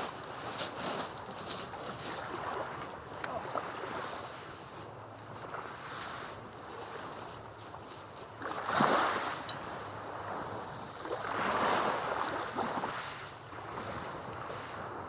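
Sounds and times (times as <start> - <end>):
small waves washing up sand beach: 0.0 - 15.0.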